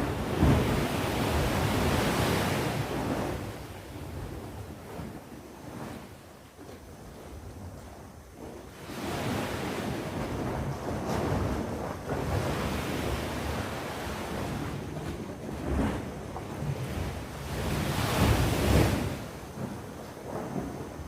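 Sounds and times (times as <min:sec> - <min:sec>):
sea waves breaking and washing: 0:00.0 - 0:21.0.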